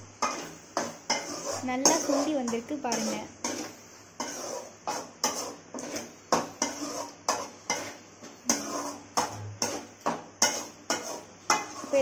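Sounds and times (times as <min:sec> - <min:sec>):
spoon stirring and scraping pan: 0:00.0 - 0:12.0.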